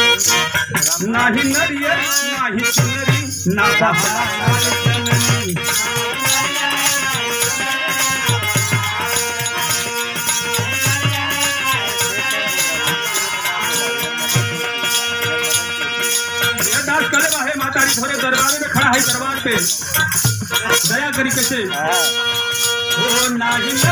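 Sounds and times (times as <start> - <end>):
held melodic notes: 0.0 - 23.9
kartal jingles: 0.0 - 23.9.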